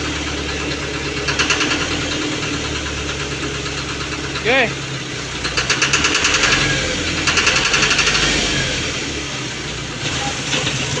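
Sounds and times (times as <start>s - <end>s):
engine knocking: 0.0s - 11.0s.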